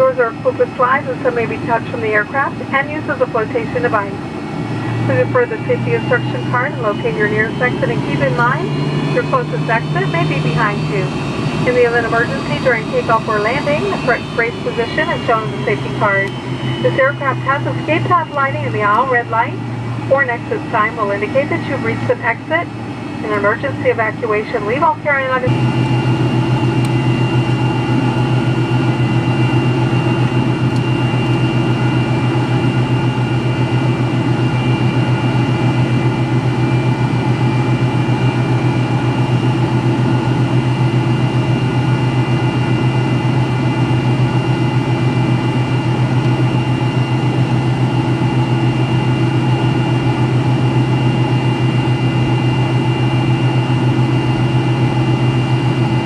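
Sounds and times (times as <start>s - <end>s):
jet engines droning with whine: 0.0s - 56.0s.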